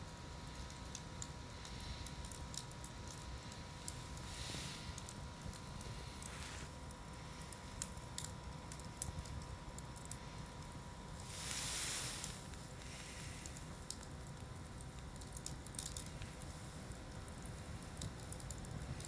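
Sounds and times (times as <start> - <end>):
wood campfire crackling: 0.0 - 19.0.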